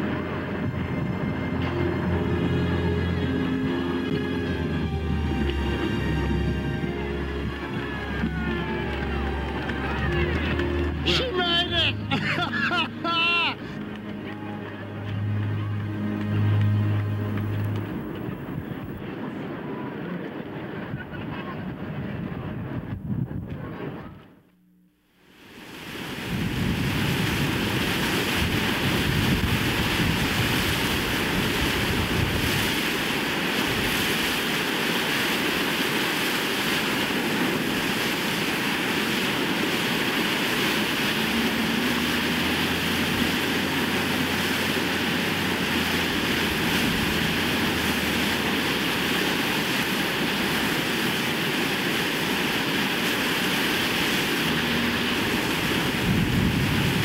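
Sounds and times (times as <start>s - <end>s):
steady rushing noise: 0.0s - 24.4s, 25.1s - 57.0s.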